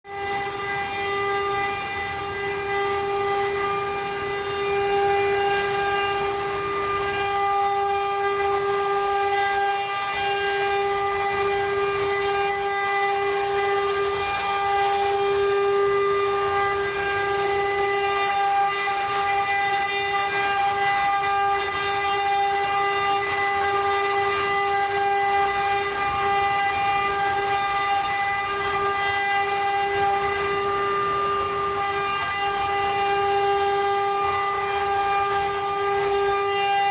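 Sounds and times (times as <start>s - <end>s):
router spindle motor whine: 0.0s - 36.9s.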